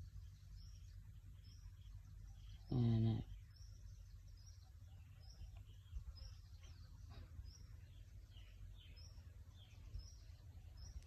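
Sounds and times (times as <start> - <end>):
bird chirping: 0.0 - 11.0
low background rumble: 0.0 - 11.0.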